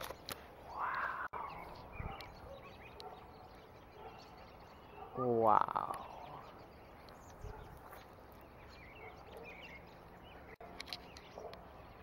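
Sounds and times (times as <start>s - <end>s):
outdoor background noise: 0.0s - 12.0s
flock of birds calling: 0.1s - 12.0s.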